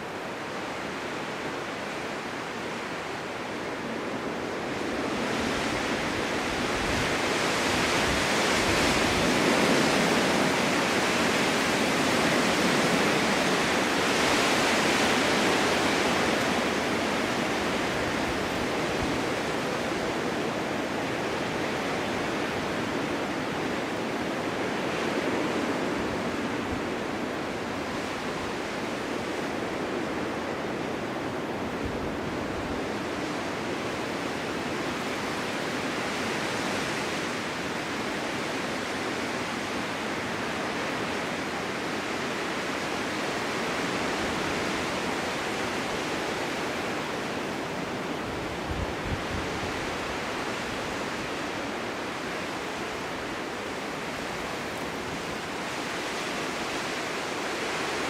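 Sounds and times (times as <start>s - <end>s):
snowstorm wind blowing: 0.0s - 58.0s.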